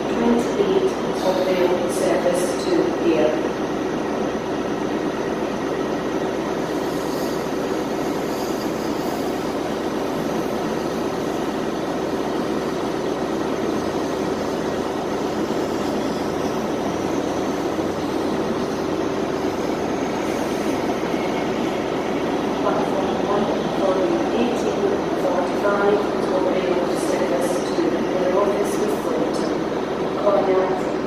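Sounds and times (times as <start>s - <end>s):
train idling drone: 0.0s - 31.0s.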